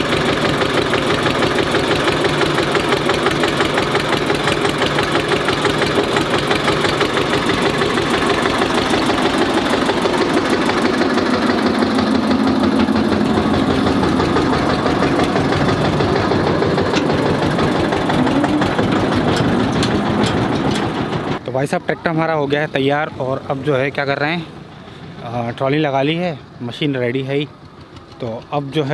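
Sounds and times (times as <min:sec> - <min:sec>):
diesel tractor engine idling: 0:00.0 - 0:28.9.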